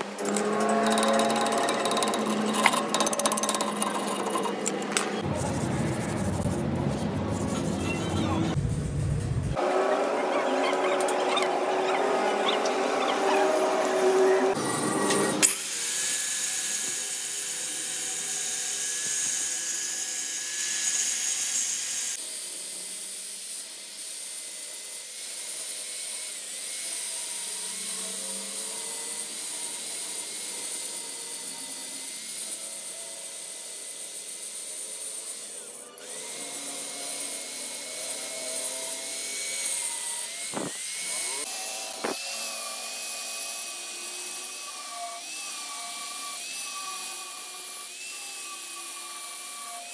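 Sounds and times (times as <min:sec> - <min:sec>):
angle grinder grinding metal: 0:00.0 - 0:08.6, 0:09.6 - 0:49.9.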